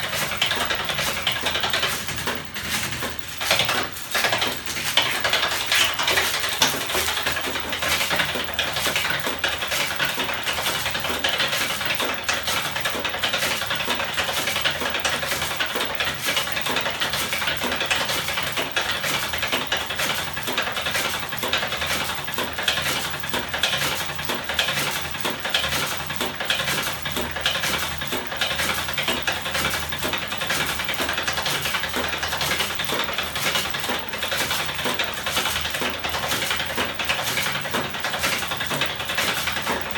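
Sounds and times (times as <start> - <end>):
fast metallic clatter: 0.0 - 39.9.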